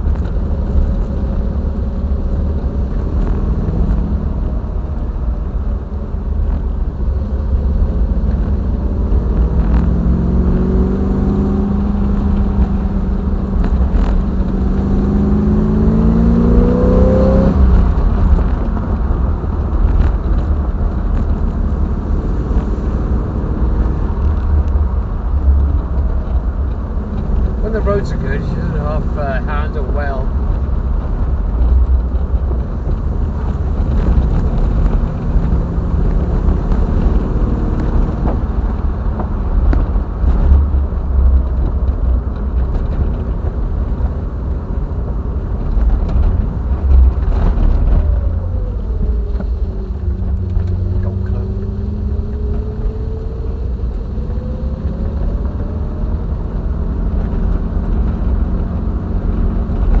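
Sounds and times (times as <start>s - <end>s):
road rumble: 0.0s - 60.0s.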